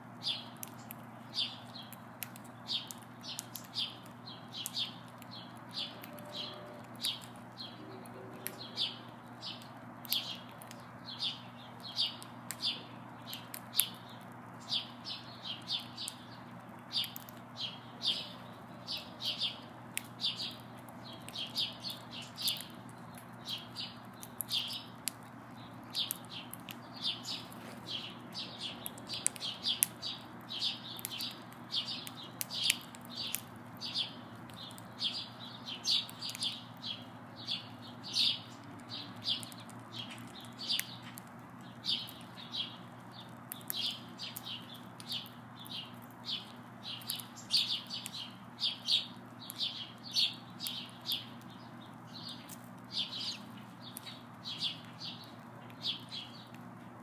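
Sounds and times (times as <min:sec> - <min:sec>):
low steady hum: 0:00.0 - 0:57.0
sparrows chirping: 0:00.0 - 0:57.0.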